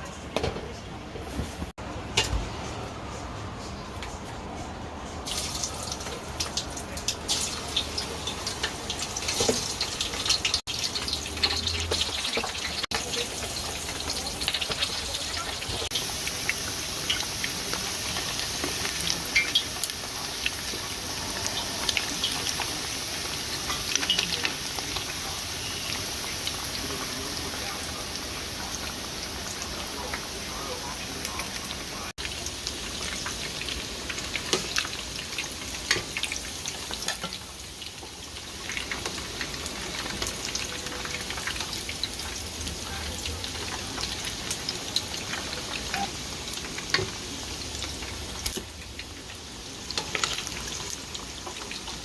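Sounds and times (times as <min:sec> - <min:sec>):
cooking hiss with crackles: 0:05.2 - 0:52.0.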